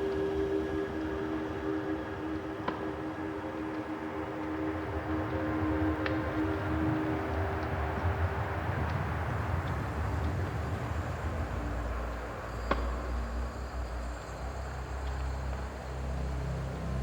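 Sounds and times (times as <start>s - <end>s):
low rumble with windy hiss: 0.0s - 17.0s.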